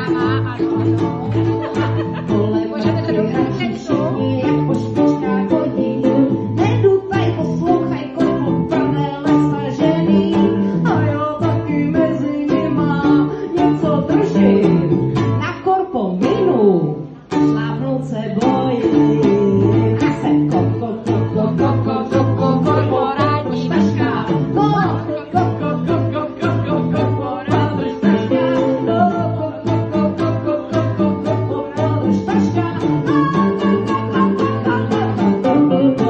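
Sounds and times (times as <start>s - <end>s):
electric guitar playing: 0.0s - 15.4s, 16.2s - 36.0s
acoustic string instrument: 0.0s - 36.0s
woman singing: 0.0s - 36.0s.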